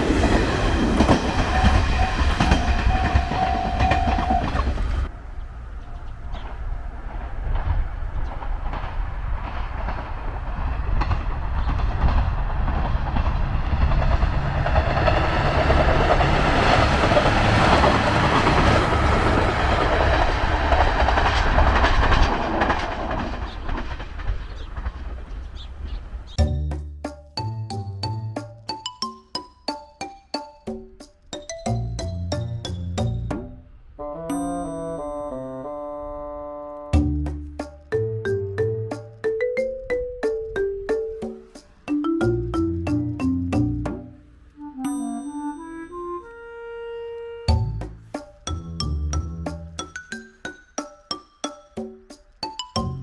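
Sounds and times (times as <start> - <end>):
diesel train engine rumble: 0.0 - 28.4, 31.7 - 50.4
wheels clacking over rail joints: 0.0 - 34.0, 37.0 - 44.6, 47.5 - 53.0.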